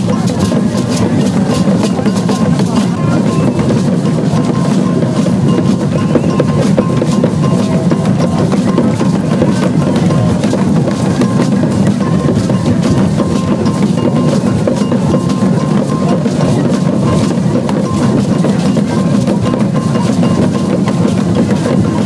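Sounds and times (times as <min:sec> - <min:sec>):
hand drums and percussion: 0:00.0 - 0:22.0.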